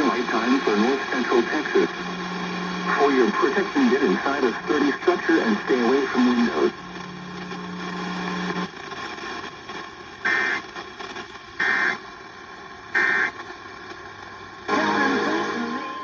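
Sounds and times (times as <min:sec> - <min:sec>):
radio static: 0:00.0 - 0:15.8.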